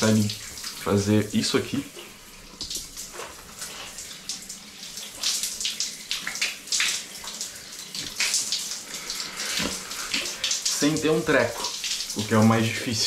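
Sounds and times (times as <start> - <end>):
shower water spraying and splashing: 0.0 - 13.0.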